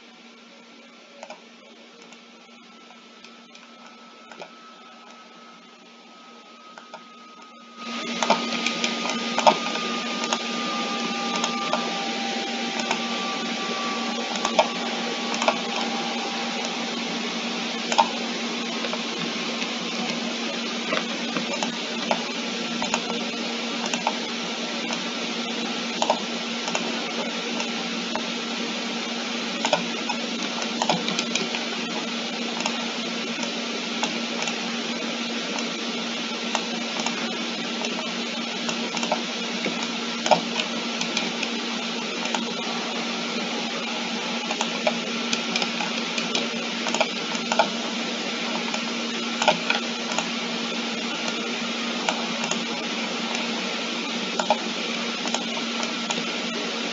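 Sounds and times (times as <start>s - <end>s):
computer hiss and hum: 0.0s - 56.9s.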